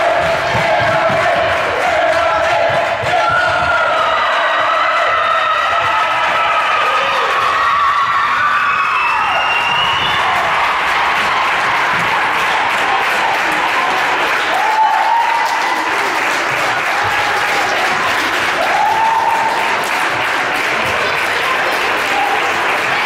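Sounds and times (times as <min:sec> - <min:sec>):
crowd applauding: 0:00.0 - 0:23.0.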